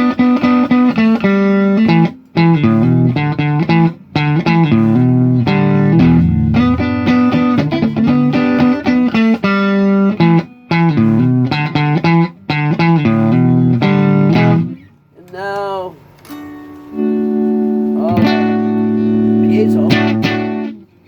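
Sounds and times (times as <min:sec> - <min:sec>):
electric guitar playing: 0:00.0 - 0:14.9, 0:16.3 - 0:20.8.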